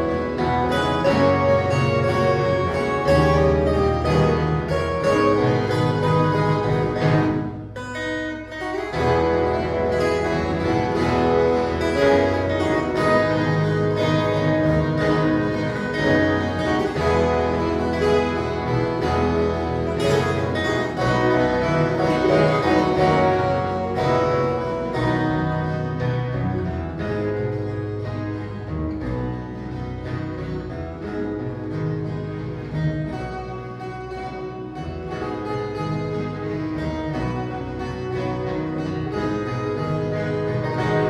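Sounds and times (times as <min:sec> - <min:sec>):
bass line: 0:00.0 - 0:41.0
guitar ensemble playing: 0:00.0 - 0:41.0.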